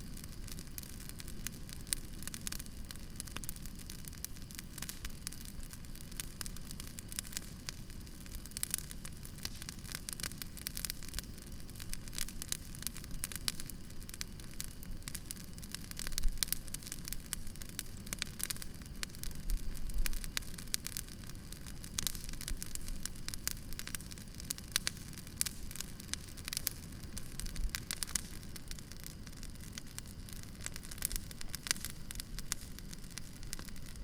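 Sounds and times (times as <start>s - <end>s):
campfire crackling: 0.0s - 34.0s
low rumble of burning: 0.0s - 34.0s.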